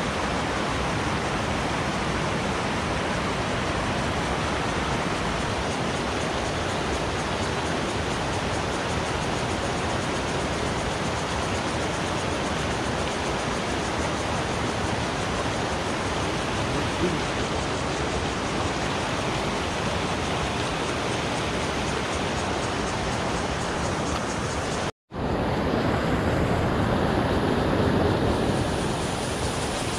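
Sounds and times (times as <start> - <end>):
stream rushing over stones: 0.0 - 24.9.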